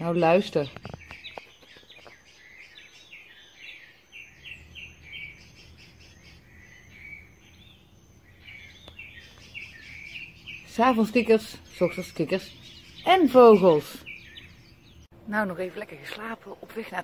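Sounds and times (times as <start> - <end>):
frogs calling: 0.0 - 15.1
birds chirping: 0.0 - 17.0.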